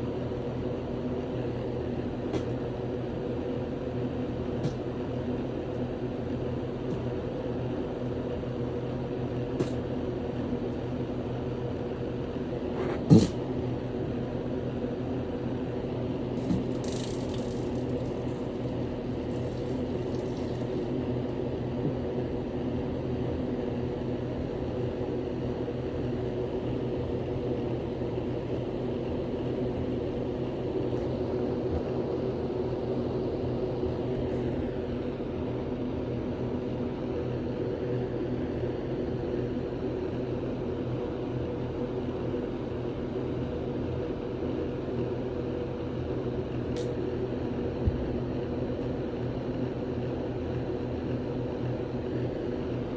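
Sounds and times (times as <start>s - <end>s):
mechanical drone with low hum: 0.0s - 52.9s.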